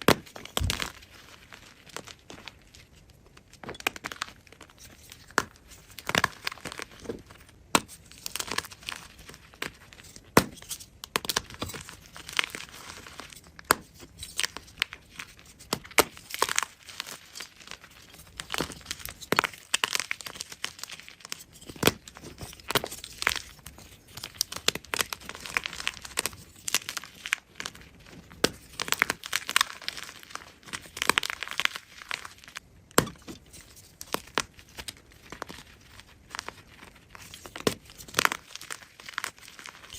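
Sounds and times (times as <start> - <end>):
chalk crunching and crumbling: 0.0 - 39.9.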